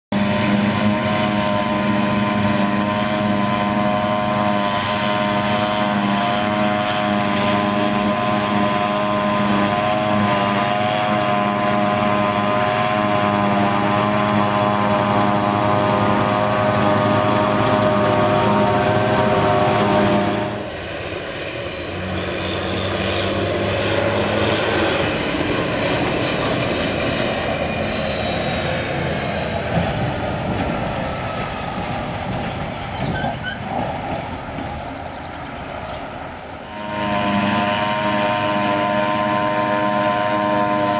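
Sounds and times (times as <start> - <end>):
forage harvester droning: 0.1 - 40.9
road noise: 0.1 - 40.9.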